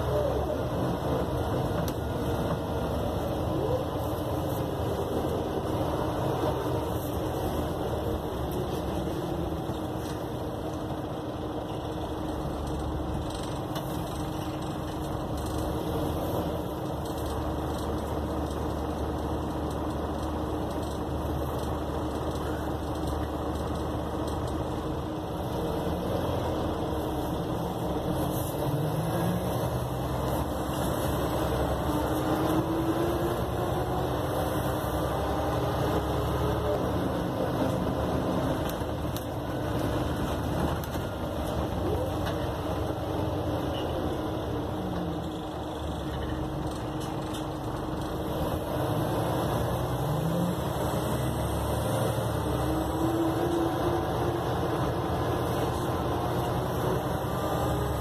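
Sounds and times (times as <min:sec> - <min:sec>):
bus engine accelerating: 0:00.0 - 0:58.0
road noise: 0:00.0 - 0:58.0.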